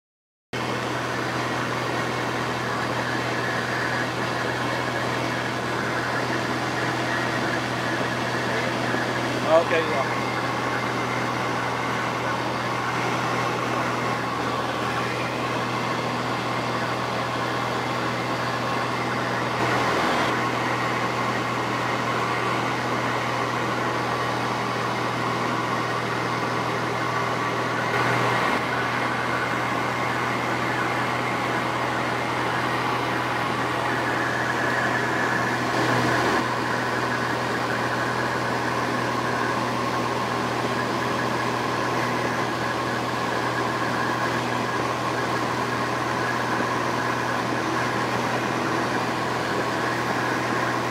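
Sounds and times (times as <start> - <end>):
light aircraft engine and propeller drone: 0.6 - 50.9.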